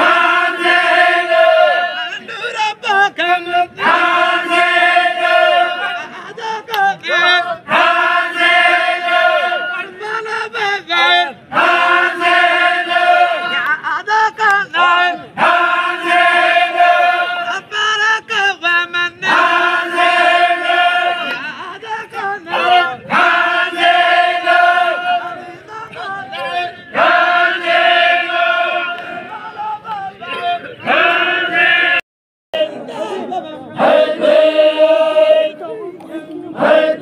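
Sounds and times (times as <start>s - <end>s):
men chanting together: 0.0s - 2.3s, 2.9s - 6.2s, 6.8s - 13.8s, 14.5s - 17.6s, 19.2s - 32.0s, 32.6s - 37.0s.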